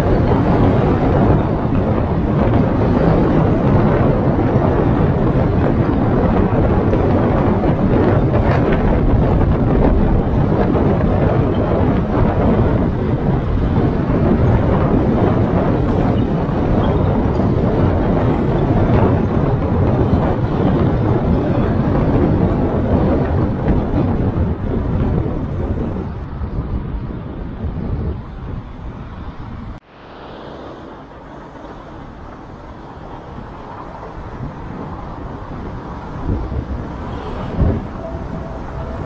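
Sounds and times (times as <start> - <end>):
tyre and road noise: 0.0 - 39.0
wind rushing over microphone: 0.0 - 39.0.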